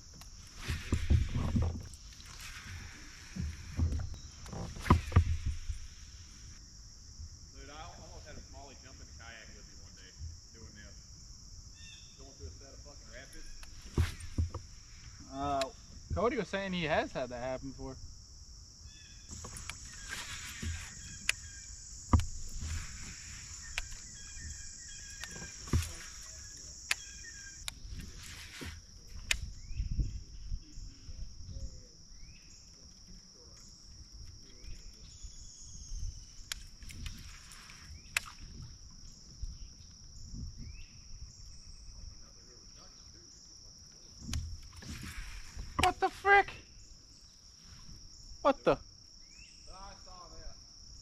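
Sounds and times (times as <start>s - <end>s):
insect chorus drone: 0.0s - 51.0s.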